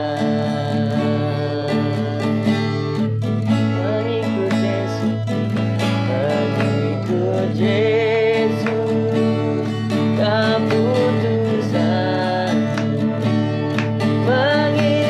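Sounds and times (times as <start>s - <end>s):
man singing: 0.0s - 15.0s
strummed acoustic guitar: 0.0s - 15.0s.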